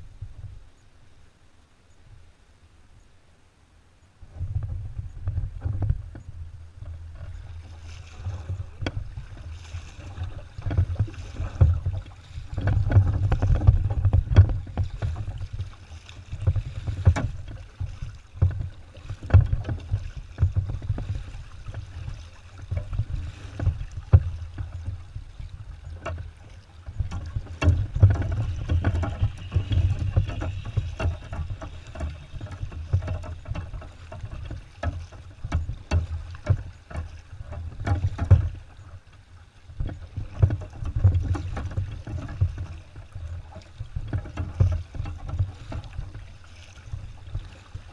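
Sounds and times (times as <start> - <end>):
water sloshing against hull: 0.0 - 3.1, 4.0 - 47.9
paddle strokes: 4.2 - 47.9.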